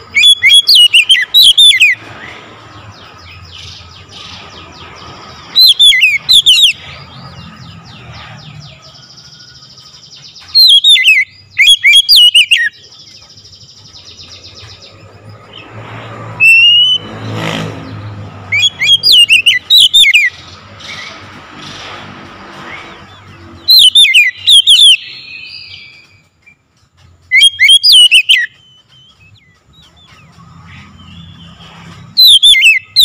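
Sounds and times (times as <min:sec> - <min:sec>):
bird singing whistled song: 0:00.0 - 0:15.7, 0:16.3 - 0:17.1, 0:18.4 - 0:21.2, 0:22.7 - 0:26.6, 0:27.2 - 0:33.0.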